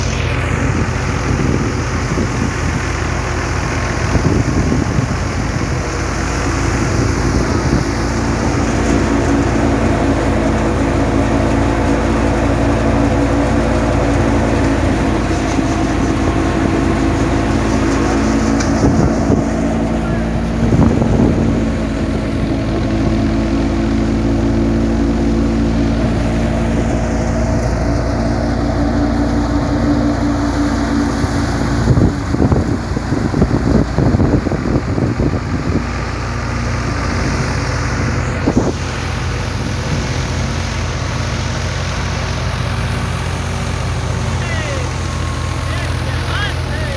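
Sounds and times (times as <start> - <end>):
harvester engine running: 0.0 - 46.9.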